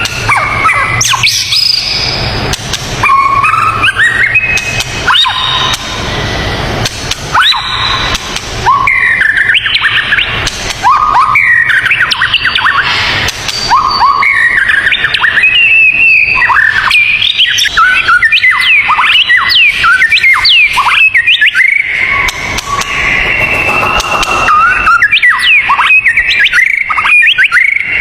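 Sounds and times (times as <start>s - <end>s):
birds chirping and whistling: 0.0s - 28.0s.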